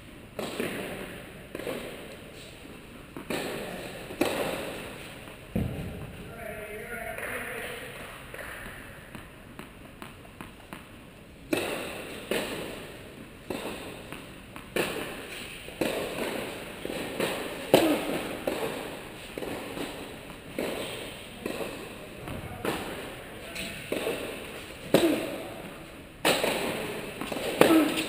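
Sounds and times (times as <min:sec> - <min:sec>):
rackets striking tennis balls: 0:00.3 - 0:28.0
tennis balls bouncing: 0:00.3 - 0:28.0.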